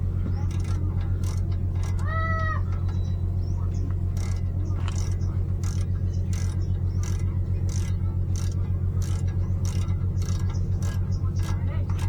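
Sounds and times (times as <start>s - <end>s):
low mechanical hum: 0.0s - 12.0s
regular clicking: 0.4s - 3.0s, 3.7s - 12.0s.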